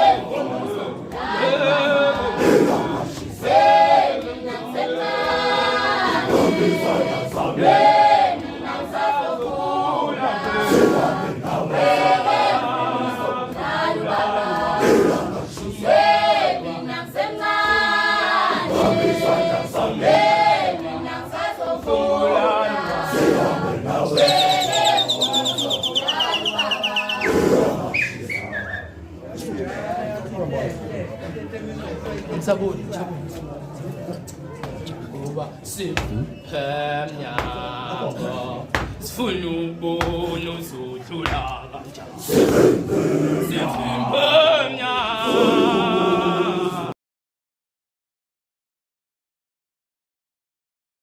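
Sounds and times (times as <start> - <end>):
group singing in harmony: 0.0 - 30.7, 35.7 - 47.0.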